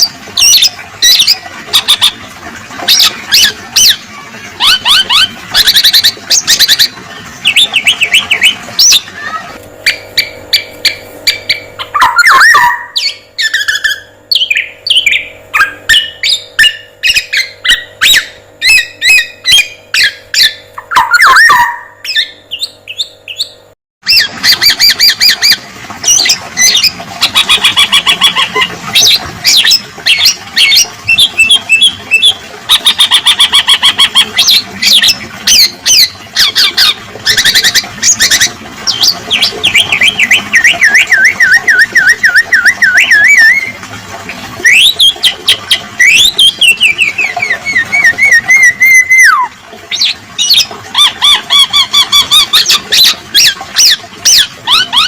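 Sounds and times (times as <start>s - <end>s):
bird chirps and trills: 0.0s - 2.2s, 2.8s - 43.8s, 44.6s - 55.0s
harsh squawk-like bird calls: 2.9s - 43.8s, 44.6s - 55.0s.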